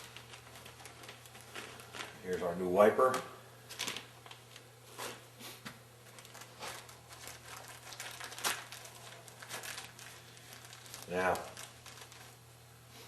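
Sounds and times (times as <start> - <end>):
packaging crinkling: 0.0 - 2.4, 3.0 - 4.7, 6.0 - 12.5.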